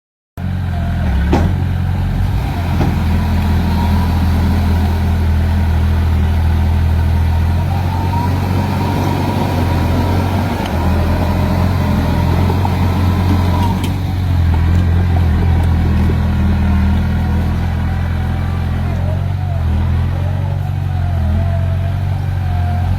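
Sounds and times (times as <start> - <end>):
heavy diesel engine rumbling: 0.4 - 22.9.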